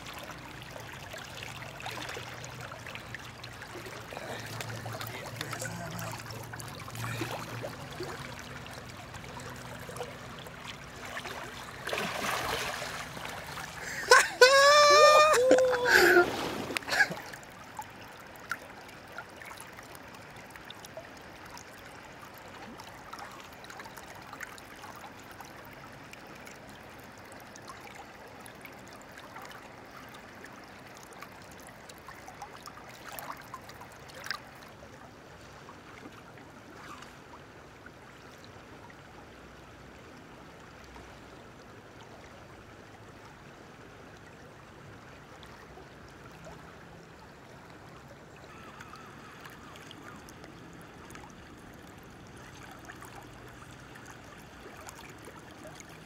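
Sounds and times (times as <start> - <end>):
river water flowing and lapping: 0.0 - 56.0.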